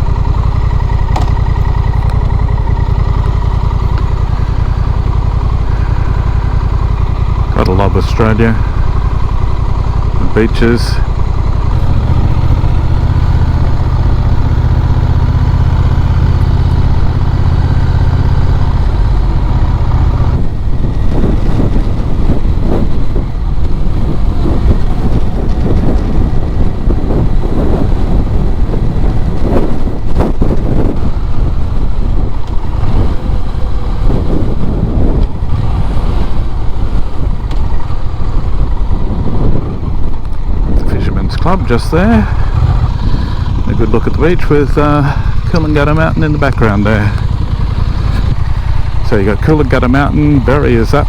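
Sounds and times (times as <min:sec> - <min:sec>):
motorcycle engine drone: 0:00.0 - 0:51.0
wind buffeting microphone: 0:00.0 - 0:51.0.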